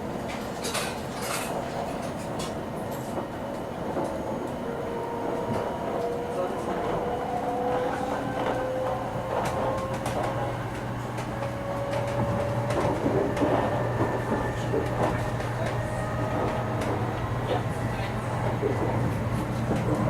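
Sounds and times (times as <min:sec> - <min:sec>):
low train running rumble: 0:00.0 - 0:20.0.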